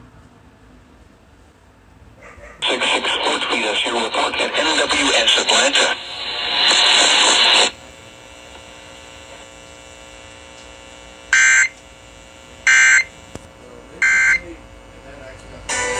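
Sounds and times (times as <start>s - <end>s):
faint steady hum: 2.2s - 15.9s
broadcast hiss: 2.6s - 15.9s.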